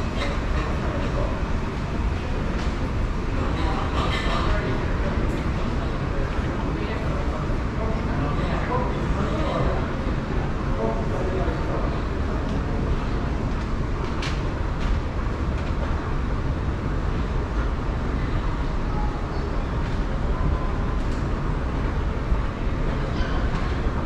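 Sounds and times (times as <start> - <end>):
moving walkway rumble: 0.0 - 24.0.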